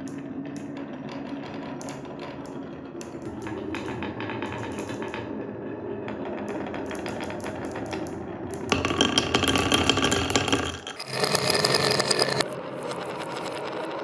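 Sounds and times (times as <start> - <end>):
marbles rolling on wooden run: 0.0 - 14.0.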